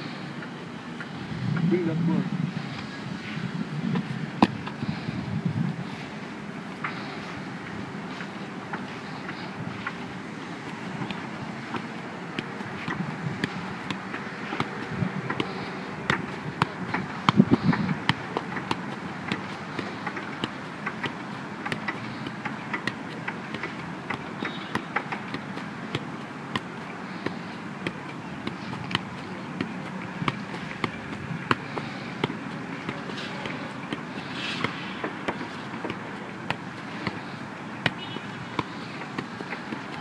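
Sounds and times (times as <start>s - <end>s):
outdoor background noise: 0.0s - 40.0s
football taps on body: 3.9s - 5.0s, 8.0s - 40.0s.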